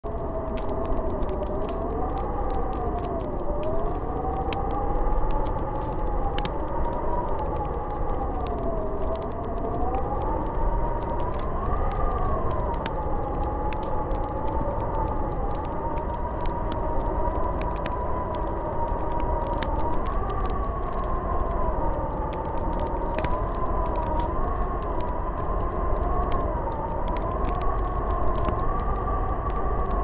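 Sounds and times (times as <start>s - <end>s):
wind howling: 0.0s - 30.0s.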